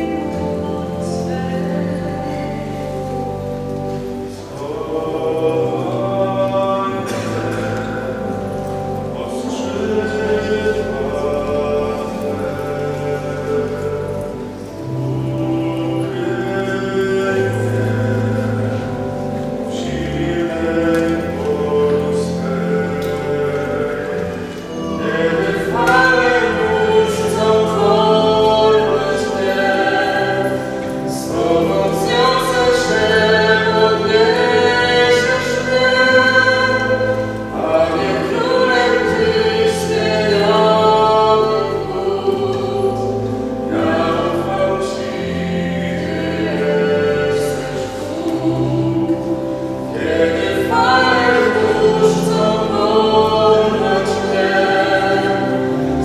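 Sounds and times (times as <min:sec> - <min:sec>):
organ chords: 0:00.0 - 0:56.0
woman singing church song: 0:00.0 - 0:56.0.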